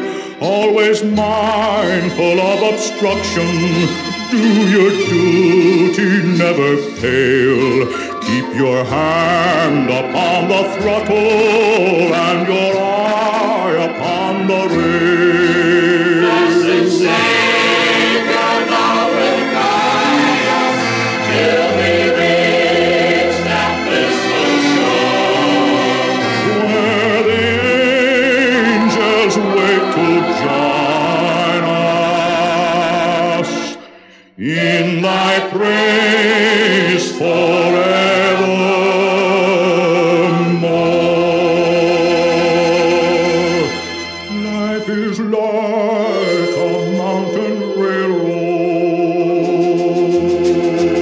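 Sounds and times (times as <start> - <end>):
choir singing a hymn: 0.0 - 43.9, 45.3 - 51.0
musical accompaniment: 0.0 - 51.0.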